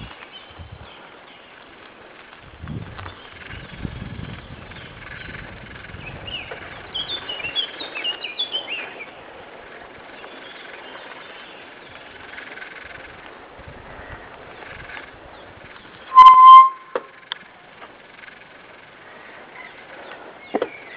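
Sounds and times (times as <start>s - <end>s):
songbird singing: 0.0s - 1.8s, 3.0s - 13.0s, 14.0s - 17.1s, 18.2s - 20.9s.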